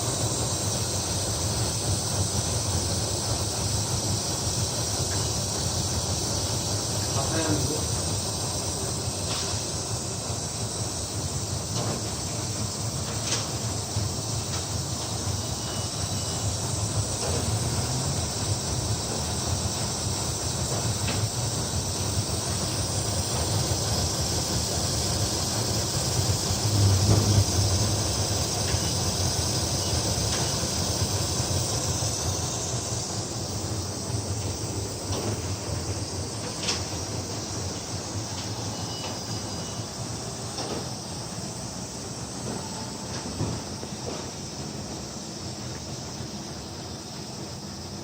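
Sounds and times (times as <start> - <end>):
rushing air hiss: 0.0 - 48.0.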